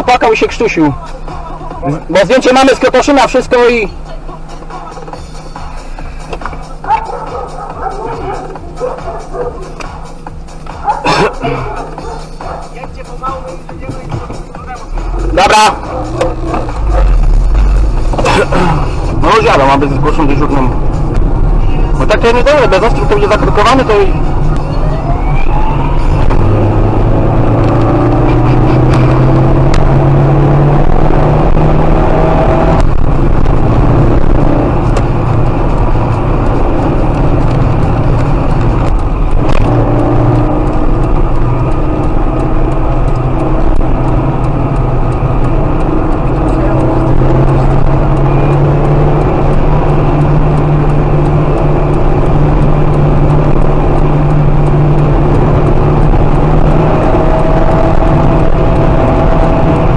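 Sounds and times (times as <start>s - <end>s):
car engine: 0.0s - 59.9s.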